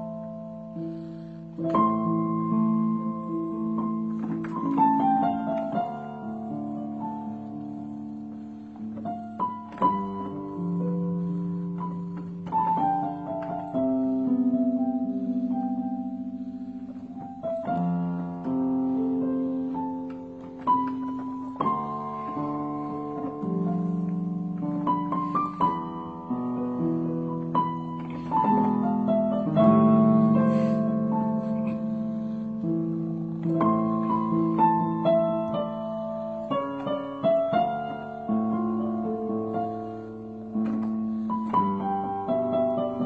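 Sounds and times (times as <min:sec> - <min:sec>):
electronic keyboard chords: 0:00.0 - 0:43.0.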